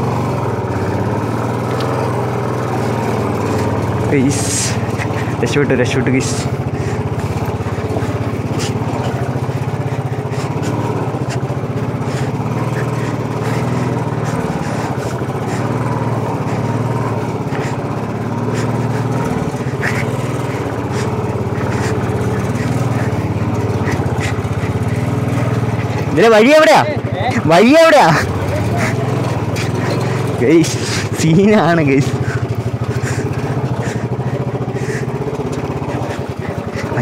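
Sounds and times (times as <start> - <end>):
motorcycle engine running at low revs: 0.0 - 37.0.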